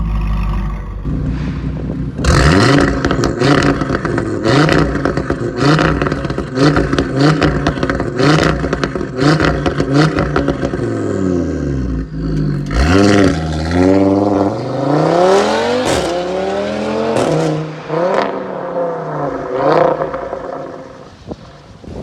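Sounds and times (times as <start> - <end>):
car engine revving: 0.0 - 21.2.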